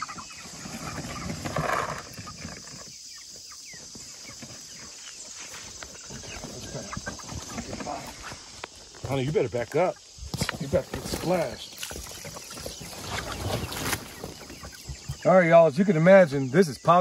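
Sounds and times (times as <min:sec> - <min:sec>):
chickens clucking and peeping: 0:00.0 - 0:17.0
insects chirring: 0:00.0 - 0:17.0.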